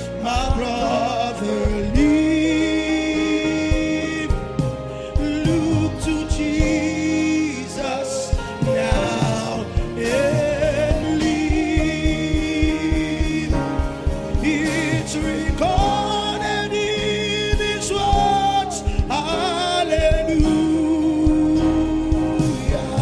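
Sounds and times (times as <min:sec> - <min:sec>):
band with steady beat: 0:00.0 - 0:23.0
voices singing: 0:00.0 - 0:23.0.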